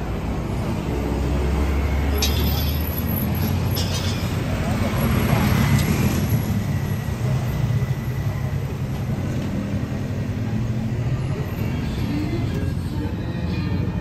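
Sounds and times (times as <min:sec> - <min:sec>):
low rumble of vehicle noise: 0:00.0 - 0:14.0.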